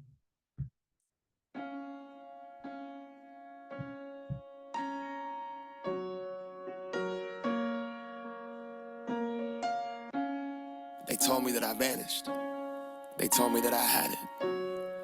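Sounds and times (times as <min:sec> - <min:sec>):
slow piano chords: 0:01.6 - 0:15.0.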